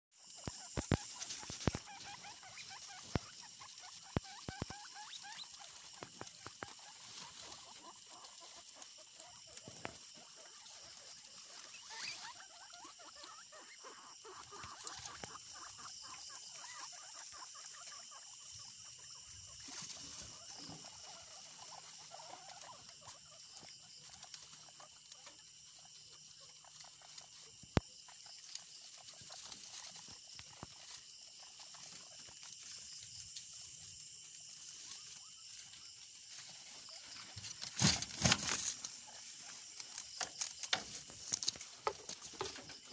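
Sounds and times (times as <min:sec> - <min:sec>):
guinea pigs chewing grass: 0:00.2 - 0:42.9.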